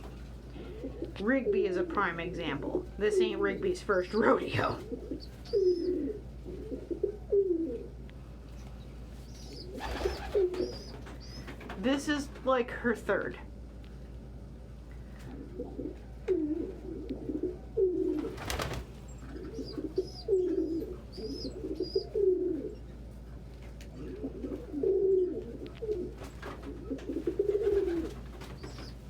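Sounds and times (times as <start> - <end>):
pigeons cooing: 0.0 - 8.0, 9.2 - 11.8, 15.2 - 22.9, 23.8 - 29.0.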